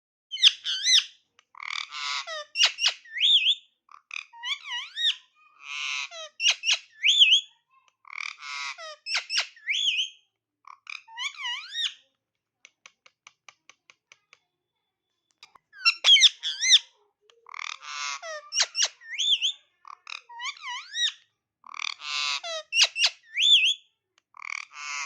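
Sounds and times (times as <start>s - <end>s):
parakeet whistles and squawks: 0.3s - 12.1s, 15.4s - 25.0s.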